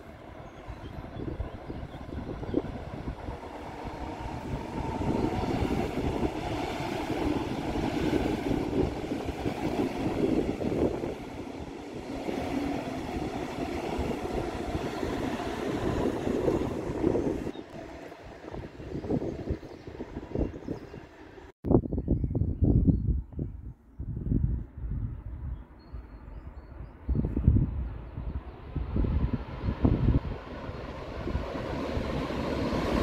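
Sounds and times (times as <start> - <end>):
train passing close by: 0.0 - 21.5, 27.3 - 33.0.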